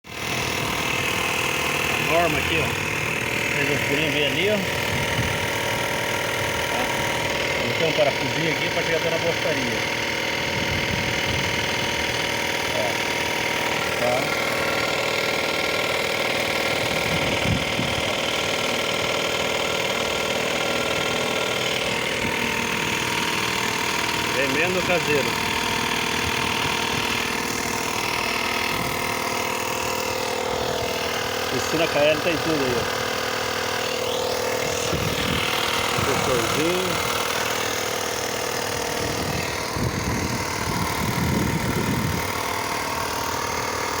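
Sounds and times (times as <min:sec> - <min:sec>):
motor running steadily: 0:00.0 - 0:44.0.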